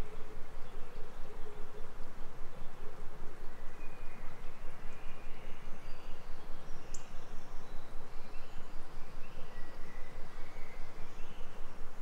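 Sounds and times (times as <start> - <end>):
insects humming: 0.0 - 12.0.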